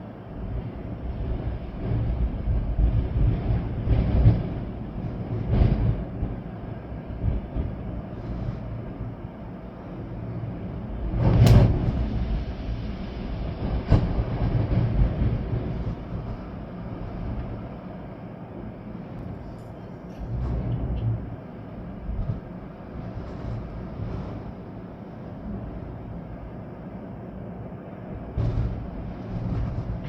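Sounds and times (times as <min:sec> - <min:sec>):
steady rain: 0:00.0 - 0:30.0
storm wind gusting: 0:00.0 - 0:30.0.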